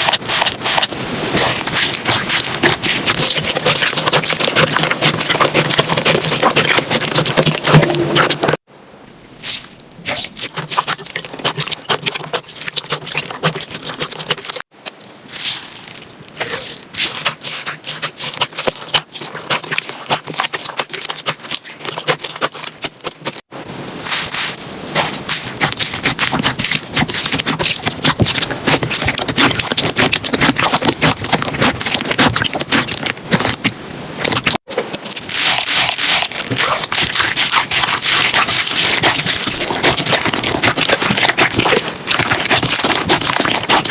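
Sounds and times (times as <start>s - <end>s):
slime squished by hand: 0.0s - 8.6s, 15.4s - 23.4s, 24.0s - 43.9s.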